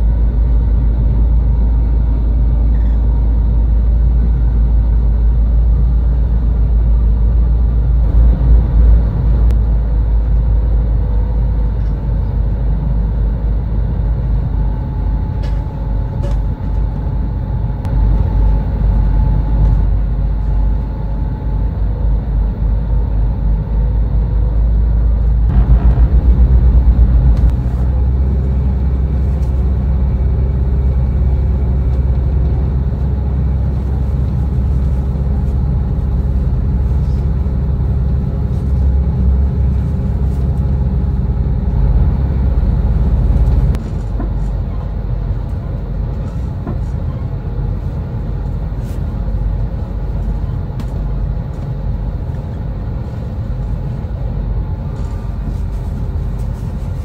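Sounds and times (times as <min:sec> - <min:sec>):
train rumbling in motion: 0:00.0 - 0:57.0.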